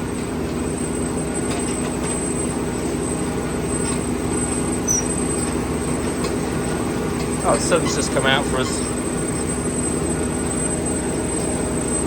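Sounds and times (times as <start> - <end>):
potato harvester droning: 0.0 - 12.0.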